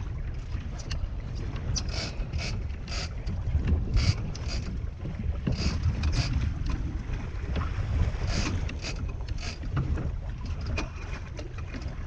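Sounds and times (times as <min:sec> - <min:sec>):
low rumble of boat and water: 0:00.0 - 0:12.0
wind buffeting microphone: 0:00.0 - 0:12.0.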